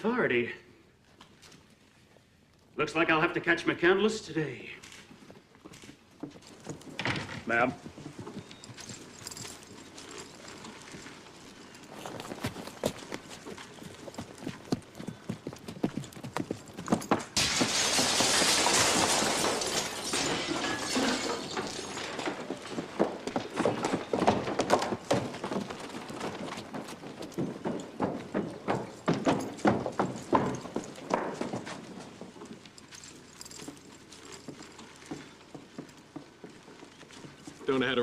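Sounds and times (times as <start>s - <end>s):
horse hooves clip-clopping: 4.0s - 20.2s, 21.2s - 38.0s.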